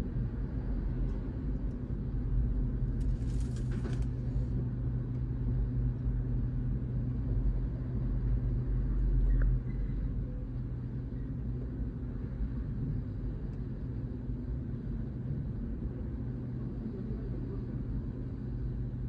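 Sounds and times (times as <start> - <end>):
constant low hum: 0.0 - 19.0
low mechanical rumble: 0.0 - 19.0.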